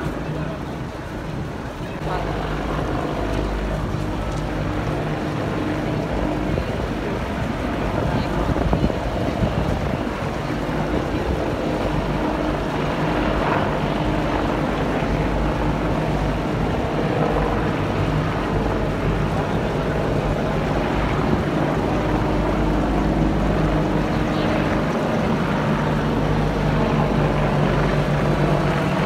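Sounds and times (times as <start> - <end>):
helicopter rotors droning: 0.0 - 29.0
wind on microphone: 0.0 - 29.0.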